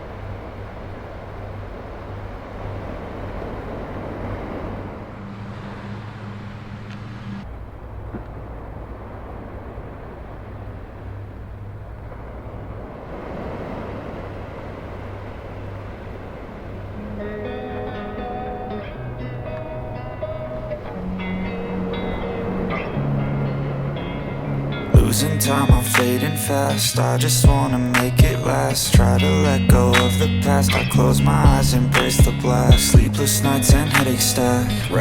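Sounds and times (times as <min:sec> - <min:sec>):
road noise: 0:00.0 - 0:35.0
vehicle drone: 0:00.0 - 0:35.0.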